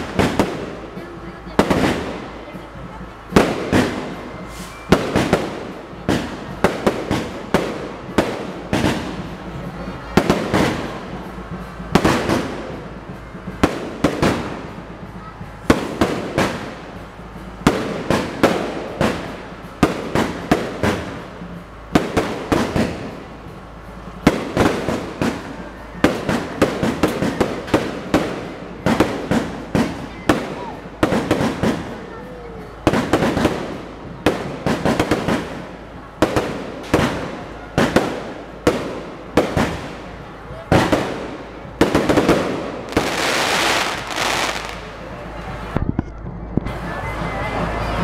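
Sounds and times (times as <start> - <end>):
fireworks bangs: 0.0 - 46.1.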